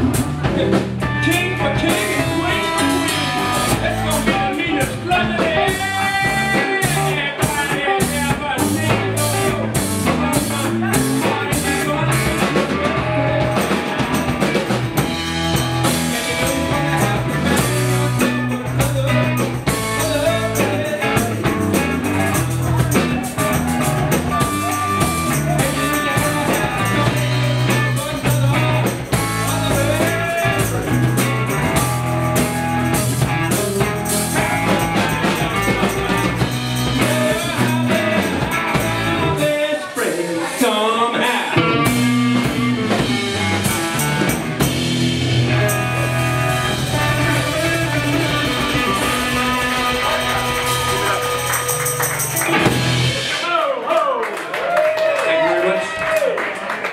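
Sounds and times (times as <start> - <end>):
drum kit: 0.0 - 39.6, 41.6 - 53.7
man singing: 0.0 - 44.4, 45.4 - 51.9
electric guitar: 0.0 - 53.4
bass guitar: 0.0 - 53.6.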